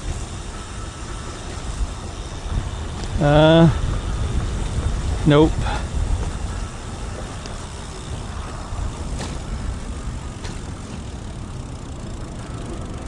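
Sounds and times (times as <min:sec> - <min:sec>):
passing cars rumbling: 0:00.0 - 0:13.0.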